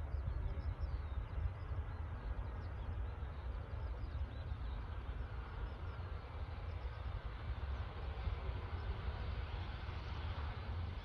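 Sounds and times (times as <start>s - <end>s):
distant jet airliner: 0.0s - 11.0s.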